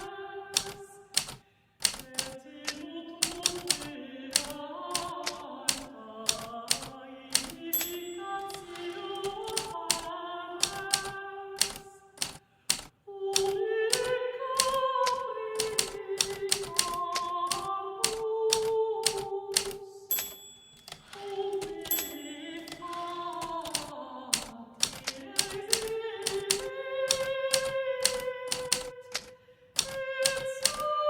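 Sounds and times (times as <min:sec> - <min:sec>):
typewriter keys clacking: 0:00.0 - 0:31.0.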